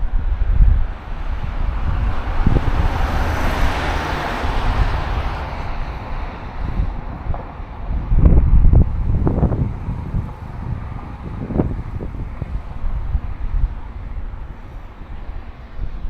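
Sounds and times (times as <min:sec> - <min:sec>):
wind buffeting microphone: 0:00.0 - 0:16.0
vehicle tyre hiss passing: 0:00.9 - 0:16.0.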